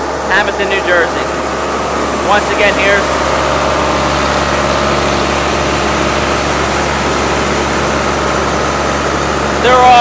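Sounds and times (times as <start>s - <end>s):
harvesting machine engine drone: 0.0s - 10.0s.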